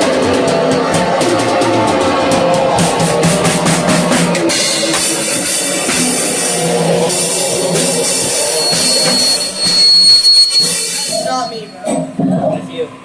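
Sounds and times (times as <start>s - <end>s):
rock band playing: 0.0s - 12.1s
drum kit with cymbals: 0.0s - 12.3s.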